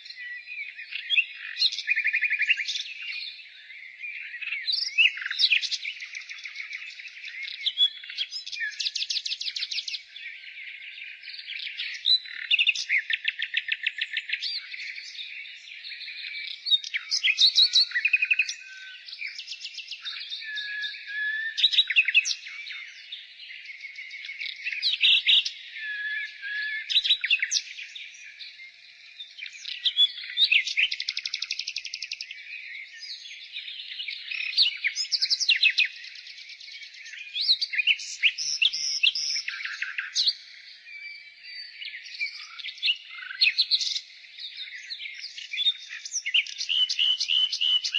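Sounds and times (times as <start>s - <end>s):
nightingale singing: 0.0s - 47.9s.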